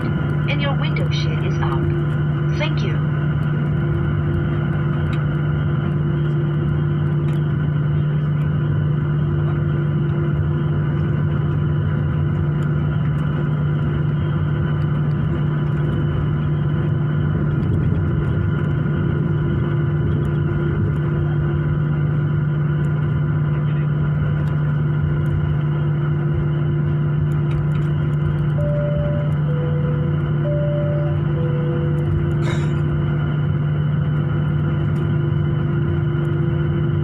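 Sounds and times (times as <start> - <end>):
engine whine tones: 0.0 - 37.0
jet engine drone in cabin: 0.0 - 37.0.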